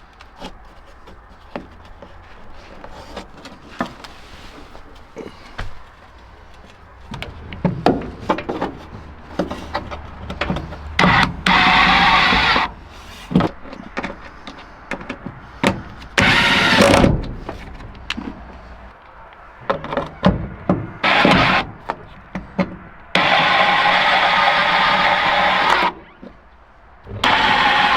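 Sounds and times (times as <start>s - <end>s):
clicks and knocks handling parts: 0.0s - 23.1s.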